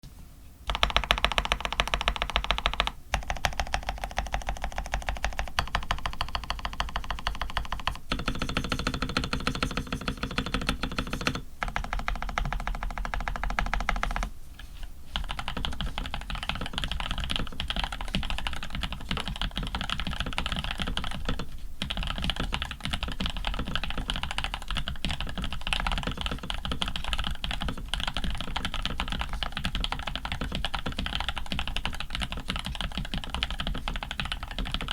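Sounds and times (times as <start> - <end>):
mechanical keyboard typing: 0.7 - 14.3, 15.2 - 34.9.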